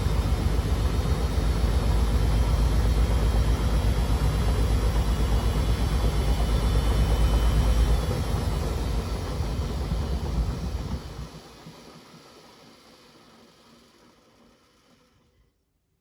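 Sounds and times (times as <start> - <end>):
washing machine spinning: 0.0 - 15.4.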